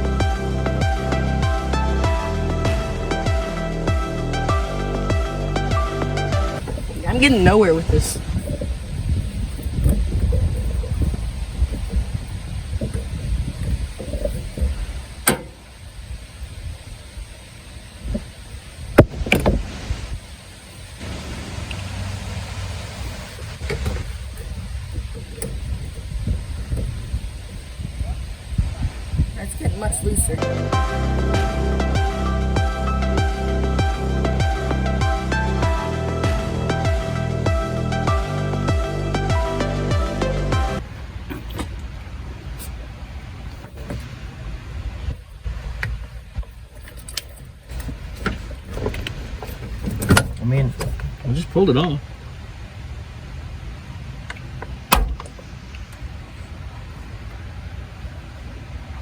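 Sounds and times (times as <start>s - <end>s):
low steady rumble: 0.0s - 59.0s.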